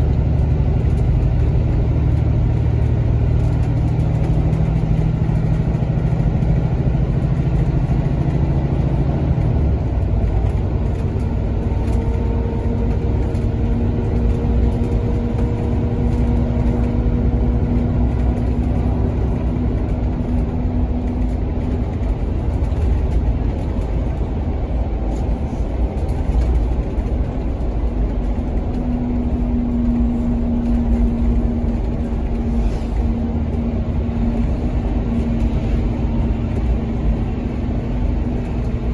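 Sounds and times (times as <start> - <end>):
bus engine rumble: 0.0 - 38.9
road noise: 0.0 - 38.9
strong low hum: 0.0 - 38.9.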